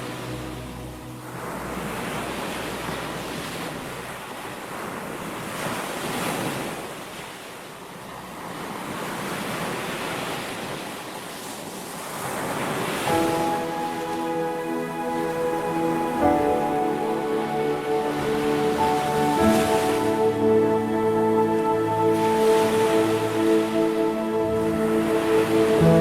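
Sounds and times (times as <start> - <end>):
waves breaking on shore: 0.0 - 26.0.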